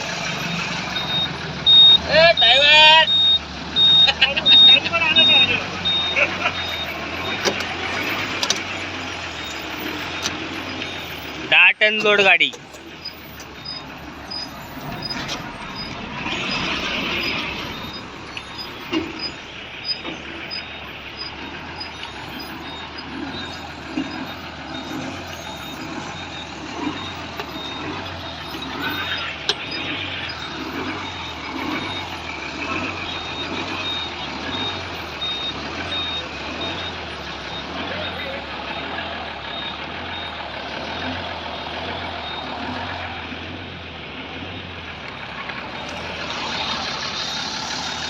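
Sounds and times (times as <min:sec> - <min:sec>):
reversing beeper: 0:00.0 - 0:43.3, 0:44.3 - 0:48.0
diesel engine running: 0:00.0 - 0:48.0.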